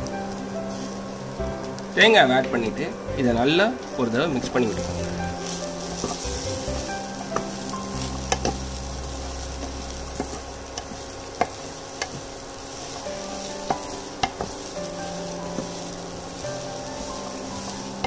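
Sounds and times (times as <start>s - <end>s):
faint sizzle: 0.0s - 18.0s
spatula stirring in a frying pan: 0.1s - 2.0s, 3.8s - 18.0s.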